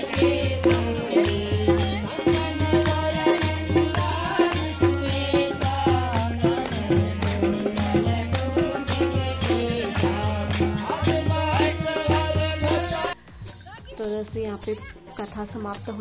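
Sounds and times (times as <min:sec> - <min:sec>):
rattle-like percussion: 0:00.0 - 0:16.0.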